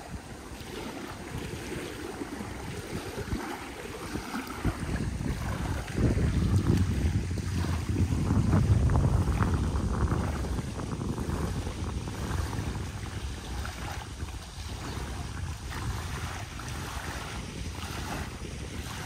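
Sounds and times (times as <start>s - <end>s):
small waves washing on beach: 0.0s - 19.0s
wind buffeting microphone: 0.0s - 19.0s.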